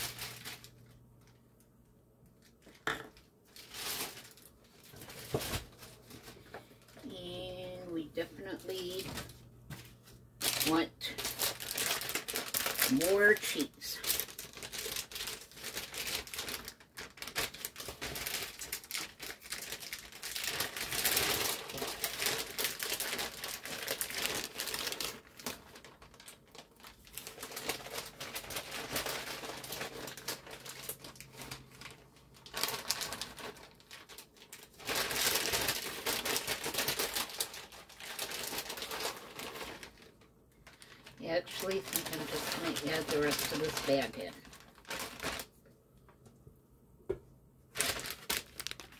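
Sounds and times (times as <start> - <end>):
plastic bag crinkling: 0.0 - 1.5, 2.4 - 45.7, 47.6 - 48.9.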